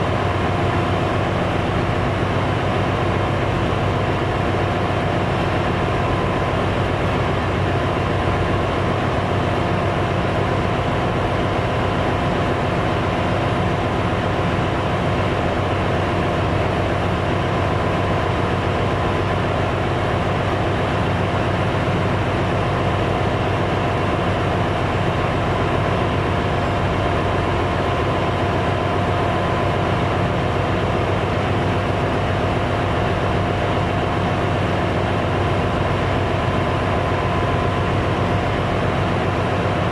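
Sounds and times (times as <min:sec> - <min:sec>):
ship engine room machinery drone: 0:00.0 - 0:39.9.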